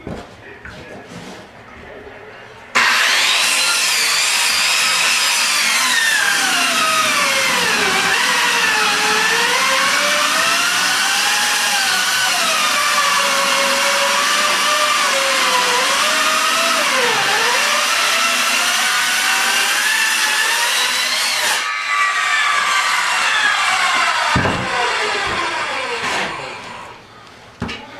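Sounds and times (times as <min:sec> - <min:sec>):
power saw cutting board: 0:02.8 - 0:27.0.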